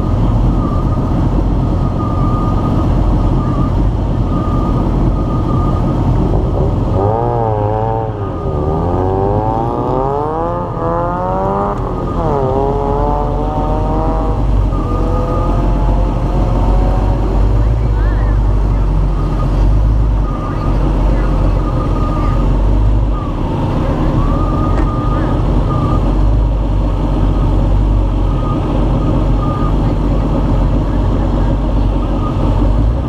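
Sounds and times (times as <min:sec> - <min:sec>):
car engine idling: 0:00.0 - 0:33.0
race car accelerating: 0:00.0 - 0:33.0.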